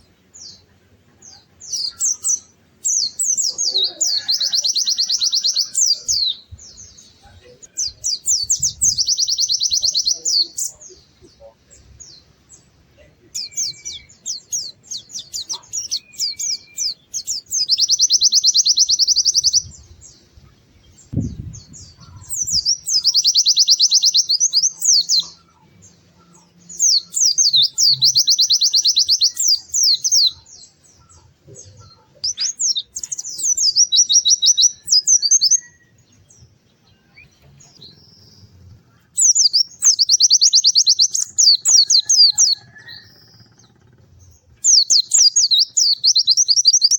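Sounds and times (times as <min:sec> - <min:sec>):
bird singing rapid high trill: 0:00.0 - 0:31.3, 0:32.2 - 0:43.8, 0:44.6 - 0:46.9.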